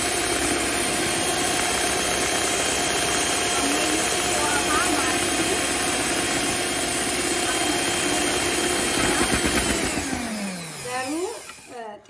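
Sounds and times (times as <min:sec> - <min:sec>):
electric hand mixer whirring: 0:00.0 - 0:12.0.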